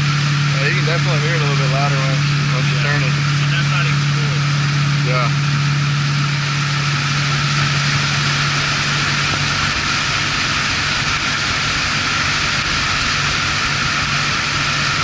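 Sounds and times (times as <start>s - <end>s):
boat engine running: 0.0s - 15.0s
water rushing over hull: 0.0s - 15.0s.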